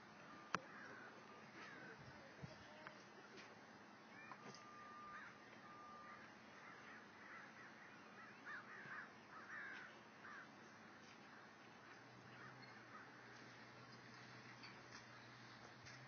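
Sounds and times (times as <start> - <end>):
distant bird calls: 0.0 - 16.0.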